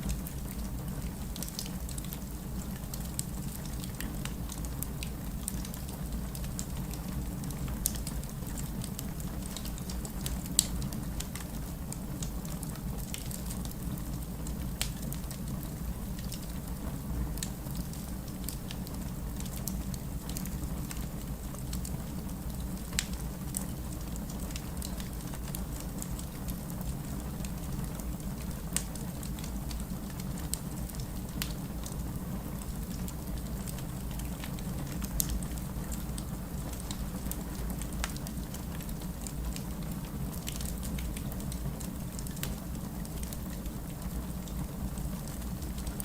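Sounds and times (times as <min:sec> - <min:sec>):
steady rain: 0:00.0 - 0:46.0
wood fire crackling and popping: 0:00.0 - 0:46.0.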